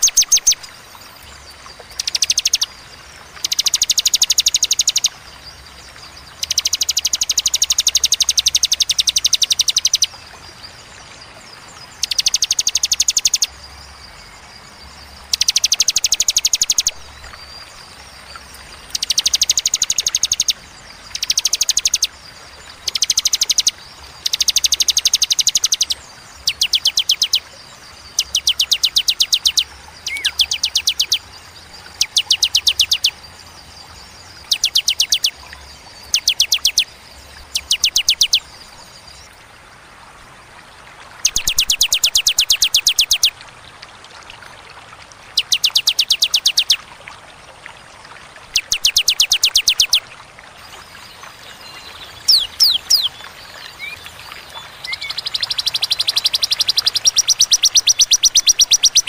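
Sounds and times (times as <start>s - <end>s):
faint high insect-like whine: 0.0s - 59.0s.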